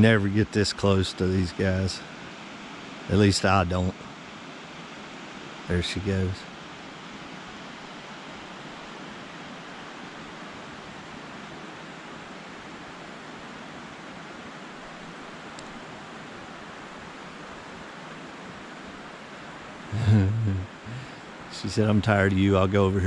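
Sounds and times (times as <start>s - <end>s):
river rushing: 0.6s - 21.9s.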